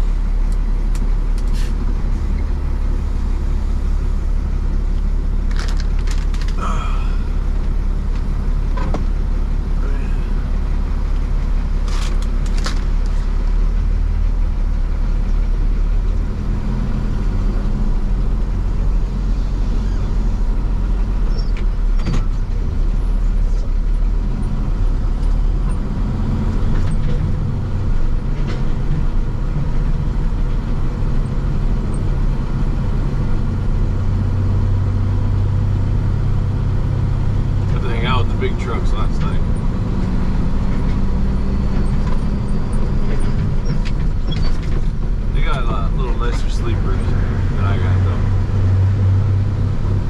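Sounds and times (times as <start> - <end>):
road noise: 0.0 - 50.0
truck engine drone: 0.0 - 50.0.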